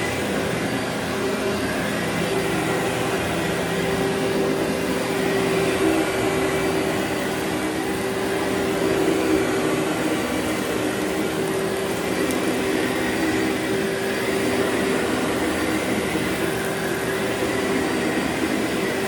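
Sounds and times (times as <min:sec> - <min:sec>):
vacuum cleaner on carpet: 0:00.0 - 0:19.0.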